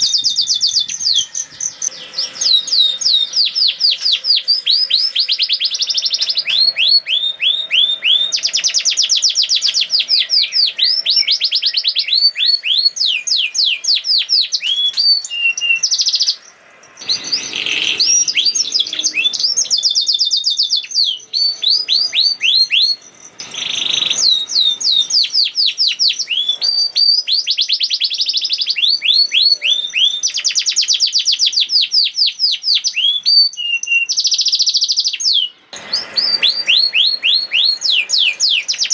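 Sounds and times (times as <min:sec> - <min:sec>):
canary singing rolling trills: 0:00.0 - 0:38.9.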